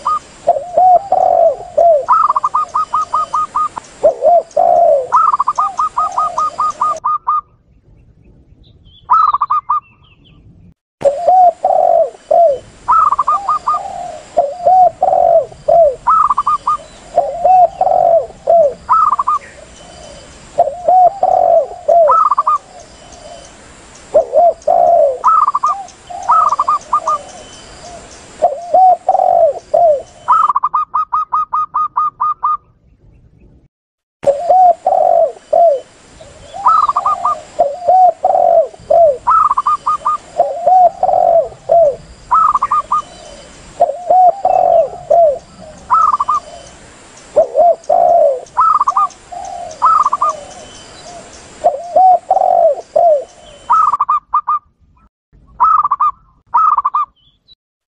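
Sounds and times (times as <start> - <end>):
doves cooing: 0.0 - 7.5, 11.0 - 23.5, 24.1 - 32.6, 34.2 - 54.6.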